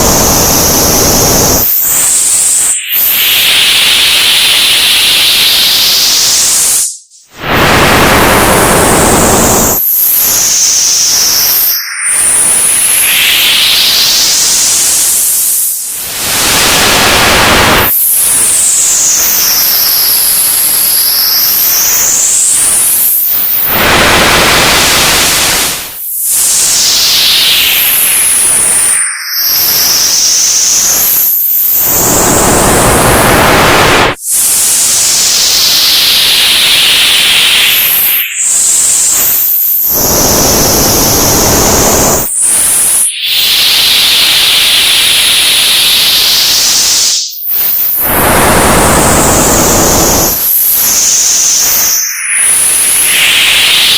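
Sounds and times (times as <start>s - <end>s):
sweeping whistling tones: 0.0s - 15.5s, 16.2s - 53.9s.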